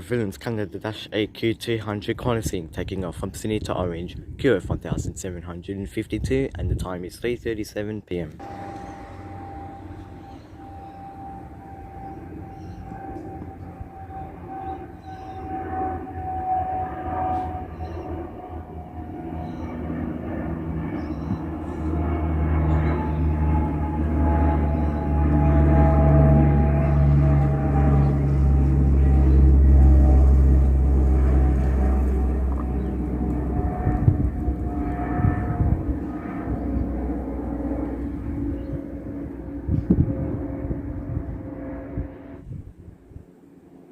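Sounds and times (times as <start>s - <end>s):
turboprop engine whine: 0.0s - 7.4s, 8.1s - 43.9s
propeller aircraft climbing overhead: 0.0s - 43.9s.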